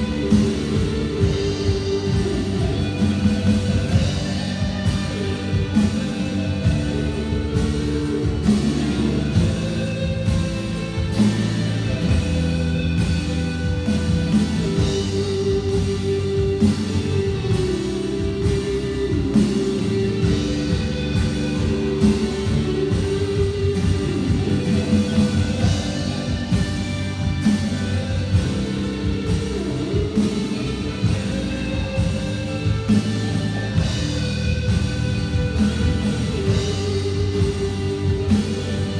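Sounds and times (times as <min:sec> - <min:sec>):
band playing a praise song: 0:00.0 - 0:38.9
drum kit steady beat: 0:00.0 - 0:38.9
guitar: 0:00.0 - 0:38.9.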